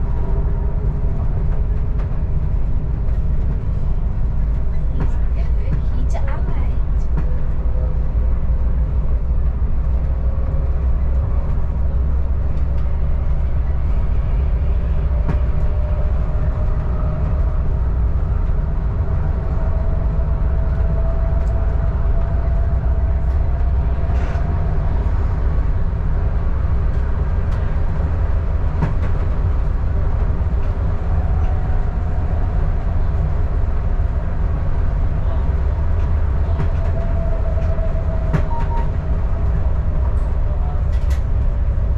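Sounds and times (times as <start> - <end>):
train rumbling on track: 0.0 - 41.9.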